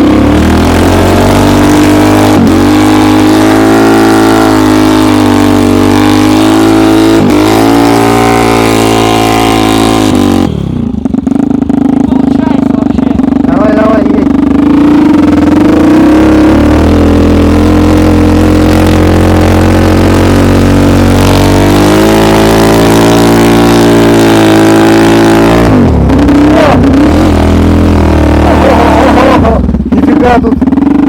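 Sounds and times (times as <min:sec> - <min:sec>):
snowmobile engine revving: 0:00.0 - 0:31.0.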